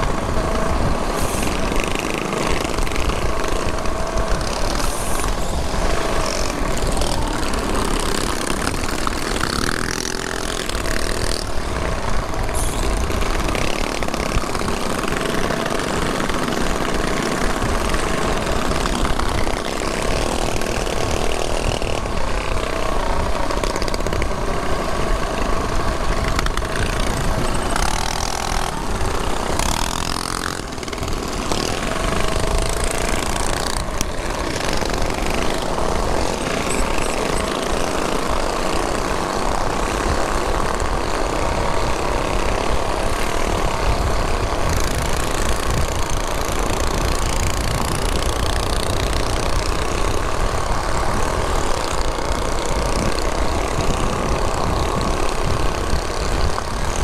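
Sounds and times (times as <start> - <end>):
mini bike engines revving: 0.0 - 57.0
wind on microphone: 0.0 - 57.0.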